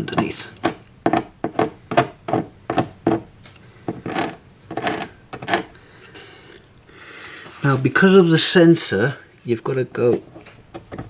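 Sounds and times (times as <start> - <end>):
hand tool scraping ballast: 0.0 - 6.6, 7.3 - 8.5, 9.5 - 11.0.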